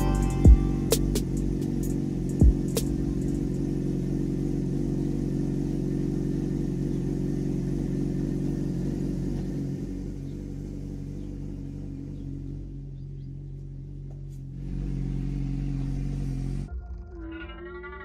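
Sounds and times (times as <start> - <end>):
motorcycle engine idling: 0.0 - 16.8.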